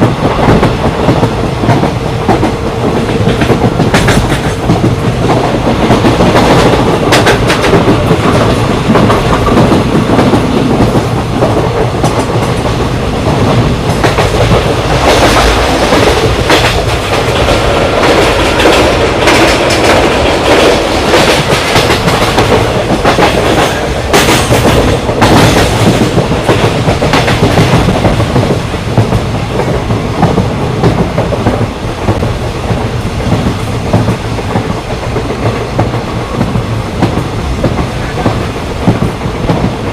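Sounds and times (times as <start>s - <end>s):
train rumbling at speed: 0.0s - 39.9s
train wheels clacking: 0.0s - 39.9s.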